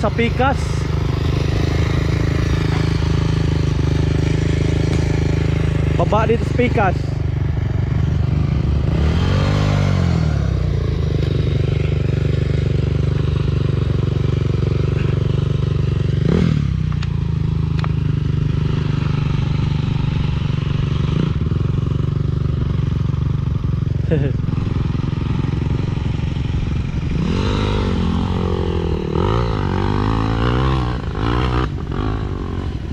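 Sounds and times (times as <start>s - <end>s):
dirt bike engine running: 0.0s - 32.9s.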